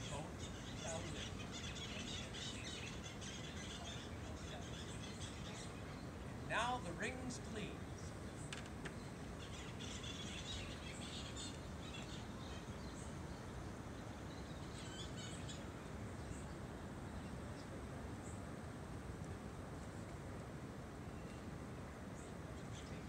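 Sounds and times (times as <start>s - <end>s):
small birds chirping: 0.0s - 18.7s, 21.0s - 23.0s
low outdoor background noise: 0.0s - 23.0s.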